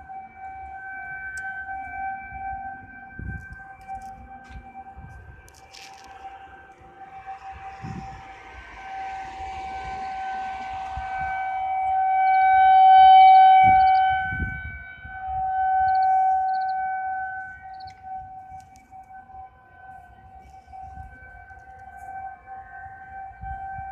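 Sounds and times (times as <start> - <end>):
siren-like wail: 0.0 - 23.9.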